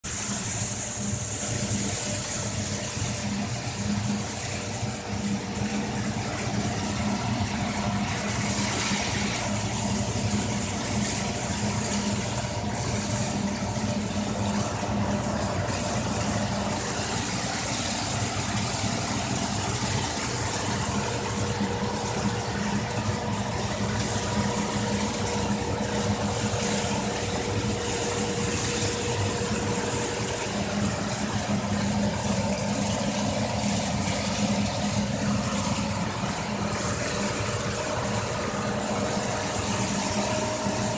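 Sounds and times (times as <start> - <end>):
machinery humming: 0.1 - 40.9.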